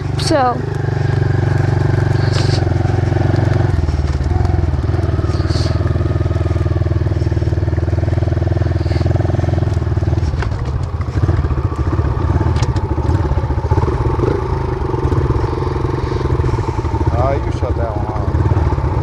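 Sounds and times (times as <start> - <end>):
dirt bike engine idling: 0.0 - 19.0.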